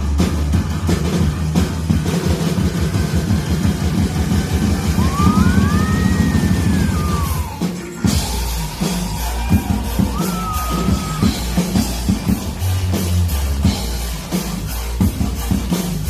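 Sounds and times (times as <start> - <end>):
drum kit playing a steady beat: 0.0 - 16.0
rock backing track: 0.0 - 16.0.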